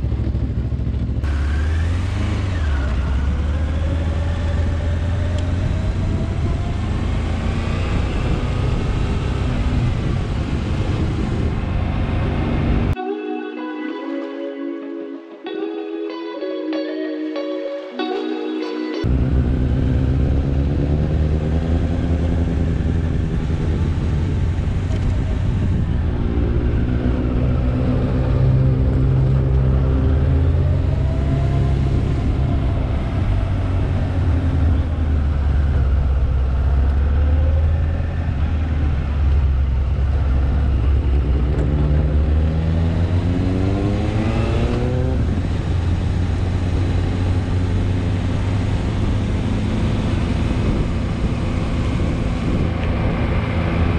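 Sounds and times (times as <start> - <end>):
motorcycle engine accelerating: 0.0 - 13.0, 19.0 - 53.9
wind rumble on microphone: 3.0 - 13.0, 19.1 - 53.9.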